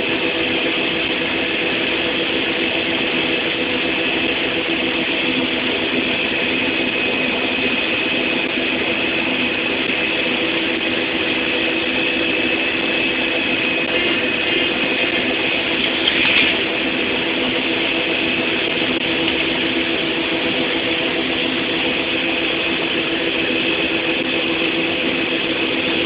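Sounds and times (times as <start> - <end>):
high-pitched whine: 0.0 - 26.0
machinery engine hum: 0.0 - 26.0.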